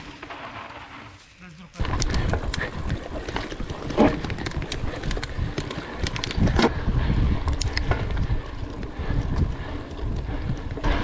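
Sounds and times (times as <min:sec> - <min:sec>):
bike rattling and knocking: 0:01.8 - 0:11.0
wind rumbling on microphone: 0:01.8 - 0:11.0.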